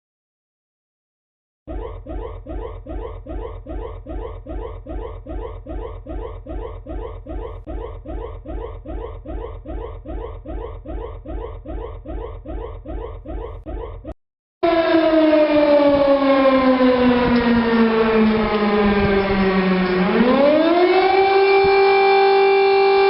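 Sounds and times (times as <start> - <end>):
electronic alarm rising sweeps: 1.7 - 23.0.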